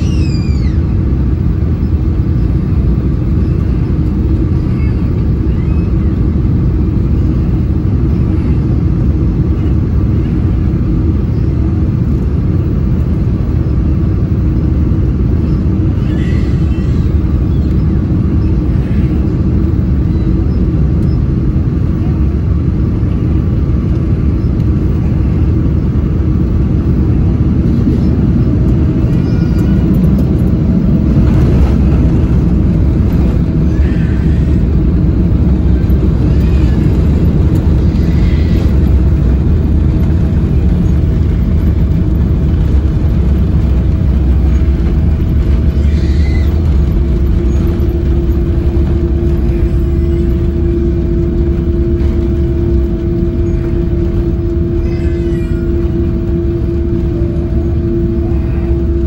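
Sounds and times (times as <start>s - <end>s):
jet engine and air rumble: 0.0s - 59.0s.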